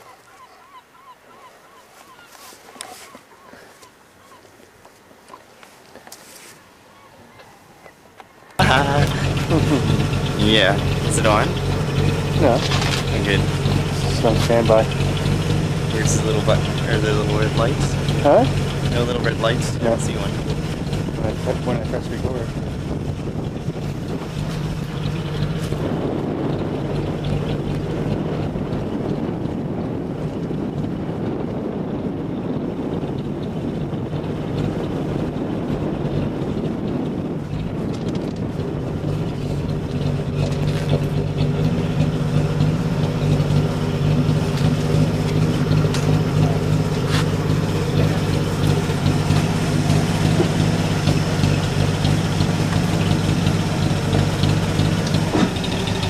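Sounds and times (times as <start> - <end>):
water noise: 0.0 - 56.0
wind: 0.0 - 56.0
boat engine running: 8.5 - 56.0.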